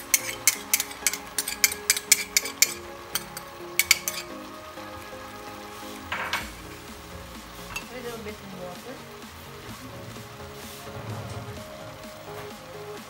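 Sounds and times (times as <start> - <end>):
water pouring: 0.0 - 12.9
vegetables sizzling in a pan: 0.0 - 13.0.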